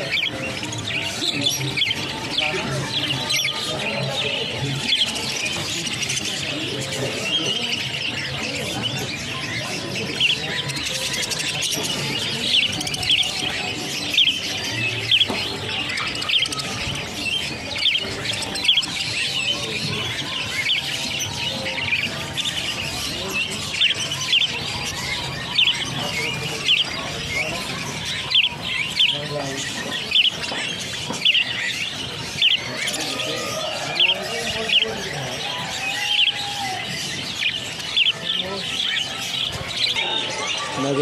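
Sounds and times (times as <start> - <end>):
budgerigars chirping: 0.0 - 41.0.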